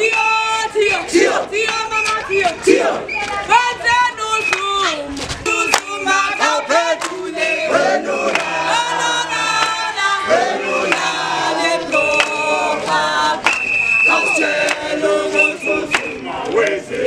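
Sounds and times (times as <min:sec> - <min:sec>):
crowd singing and chanting: 0:00.0 - 0:17.0.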